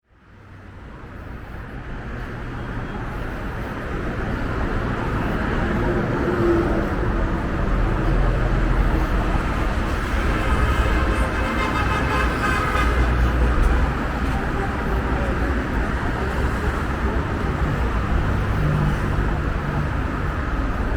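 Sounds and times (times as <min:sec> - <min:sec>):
road traffic: 0:00.1 - 0:20.9.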